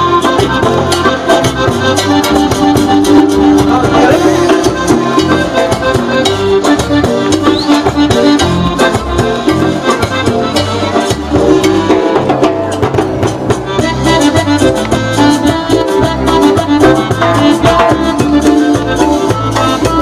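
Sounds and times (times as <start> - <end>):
bass notes: 0.0 - 20.0
live band playing instrumental: 0.0 - 20.0
percussion steady beat: 0.0 - 20.0.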